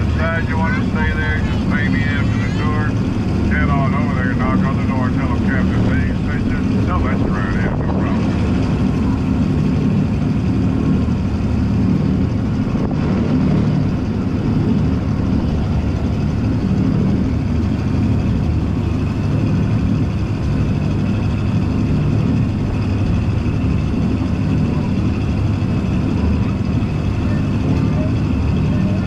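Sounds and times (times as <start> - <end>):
boat engine droning: 0.0 - 29.0
water rushing from wake: 0.0 - 29.0
wind noise: 5.4 - 28.7.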